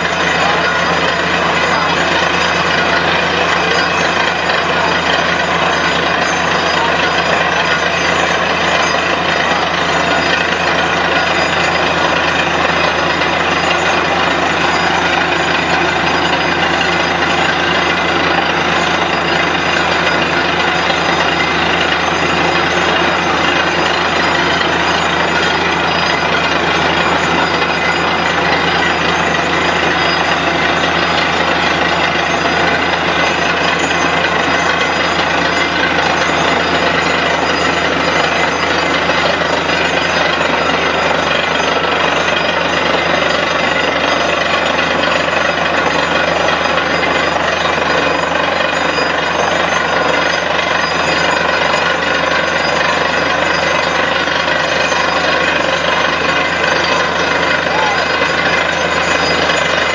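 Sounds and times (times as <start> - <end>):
drilling rig running: 0.0 - 59.9.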